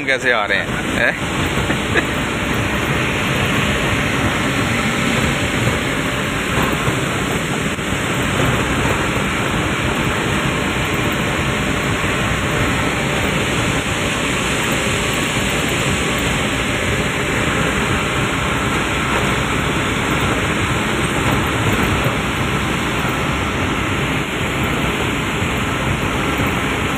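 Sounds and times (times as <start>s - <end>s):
truck engine and road noise: 0.0s - 26.9s.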